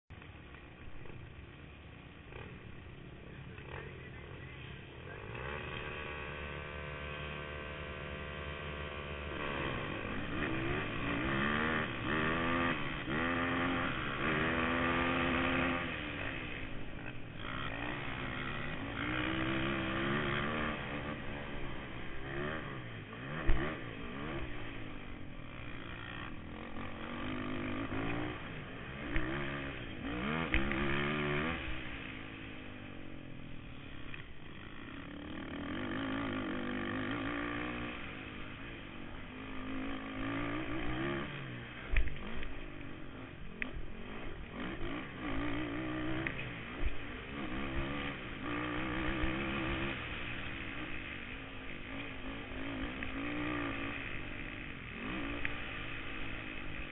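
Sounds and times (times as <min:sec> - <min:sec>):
quad engine revving: 0:02.2 - 0:56.9
quad knocking over bumps: 0:05.3 - 0:56.9.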